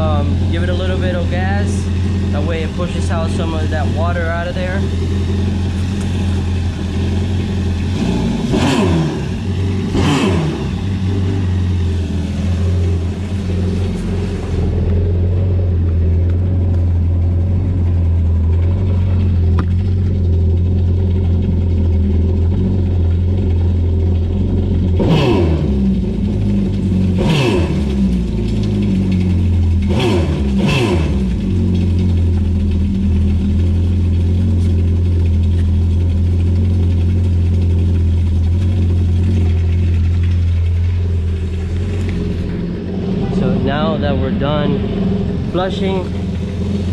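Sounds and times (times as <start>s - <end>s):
engine revving: 0.0s - 46.9s
jet ski engine idling: 0.0s - 46.9s.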